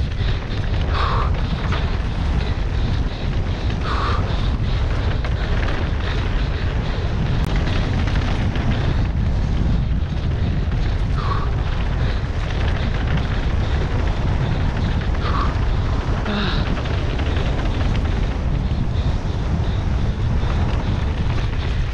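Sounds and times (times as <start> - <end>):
bike rattling over bumps: 0.0 - 21.9
tyres rumbling on dirt: 0.0 - 21.9
wind buffeting microphone: 0.0 - 21.9.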